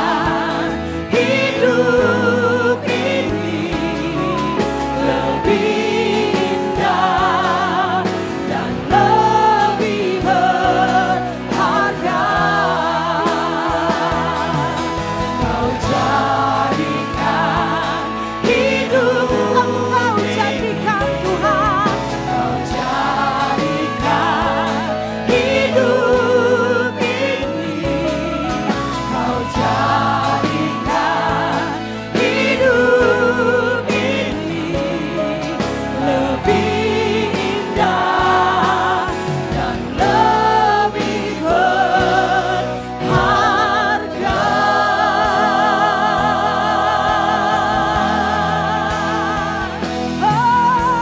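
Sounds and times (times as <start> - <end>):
instrumental accompaniment: 0.0 - 51.0
singers holding notes with vibrato: 0.0 - 51.0.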